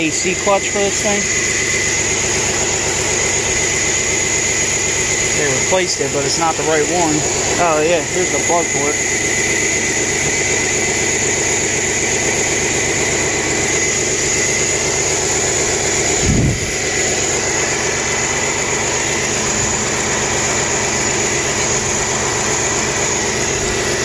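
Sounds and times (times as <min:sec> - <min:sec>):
pickup engine idling with a miss: 0:00.0 - 0:24.0.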